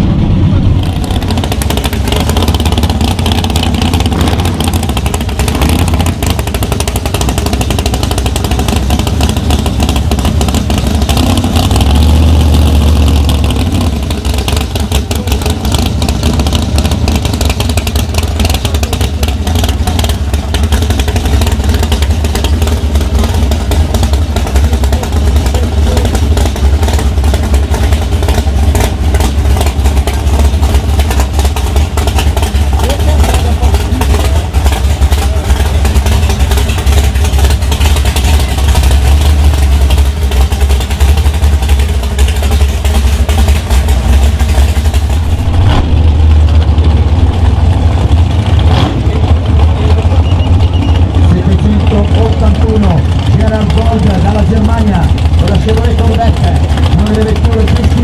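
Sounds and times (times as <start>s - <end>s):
drag-racing engine rumbling: 0.0s - 58.0s.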